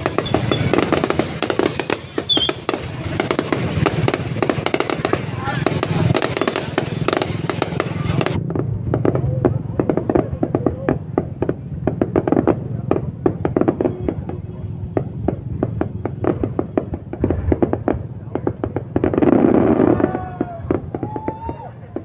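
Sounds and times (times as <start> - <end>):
fireworks popping and banging: 0.0 - 22.0
low rumble: 2.8 - 22.0.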